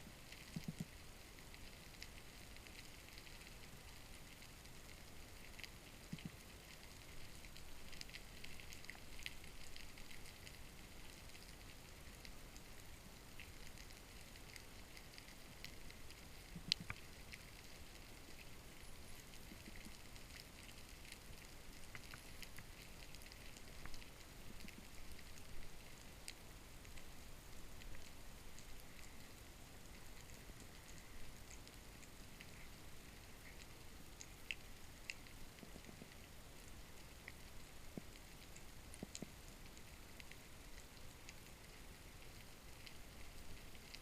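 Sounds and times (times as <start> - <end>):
faint low fish drumming: 0.0 - 44.0
underwater clicking crackle: 0.0 - 44.0.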